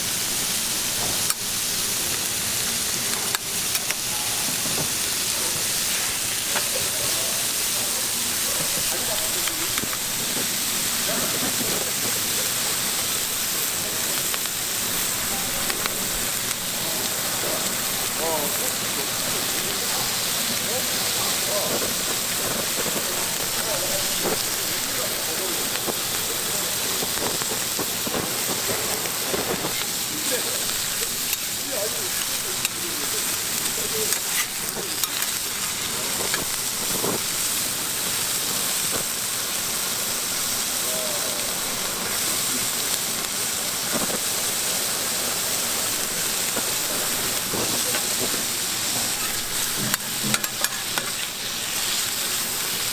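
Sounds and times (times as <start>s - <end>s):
food sizzling on a griddle: 0.0s - 52.9s.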